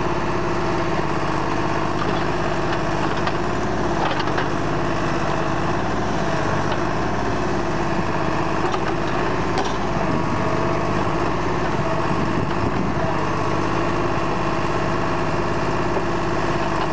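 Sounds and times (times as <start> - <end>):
tractor diesel engine under load: 0.0 - 16.9.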